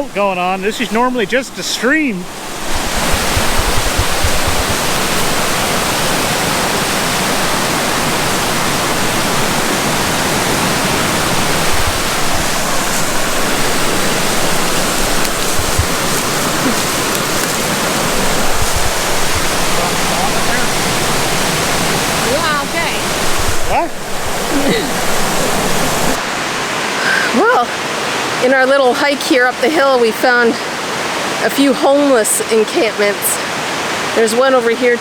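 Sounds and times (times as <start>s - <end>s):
stream rushing in flood: 0.0s - 35.0s.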